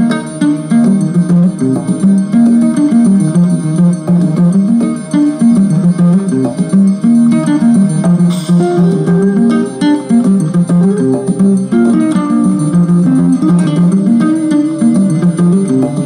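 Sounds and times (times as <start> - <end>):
plucked string instrument melody: 0.0 - 16.0.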